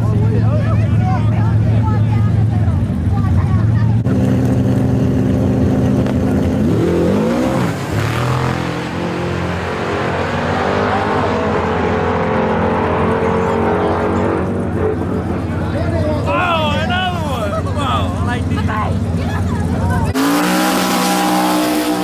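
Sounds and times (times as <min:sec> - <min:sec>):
truck engine revving: 0:00.0 - 0:22.0
truck engines running: 0:00.0 - 0:22.0.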